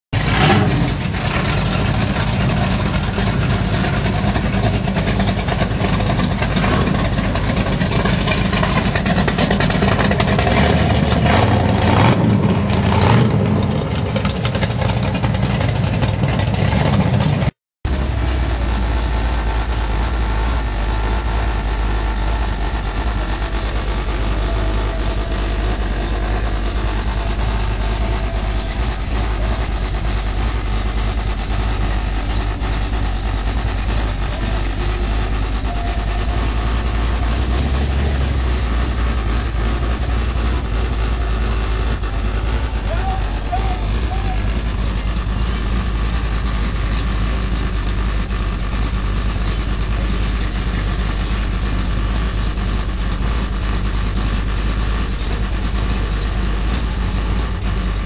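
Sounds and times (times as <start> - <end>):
car engine deep rumble: 0.1 - 58.0.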